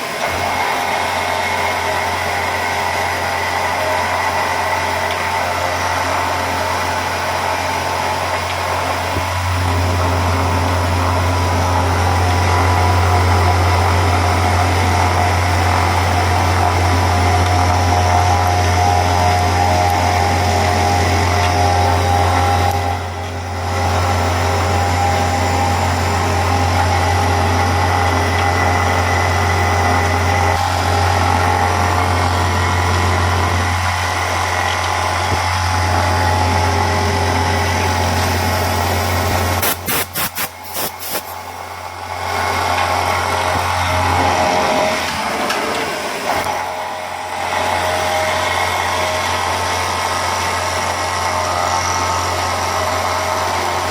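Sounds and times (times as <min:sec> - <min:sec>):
milling machine humming: 0:00.0 - 0:53.9.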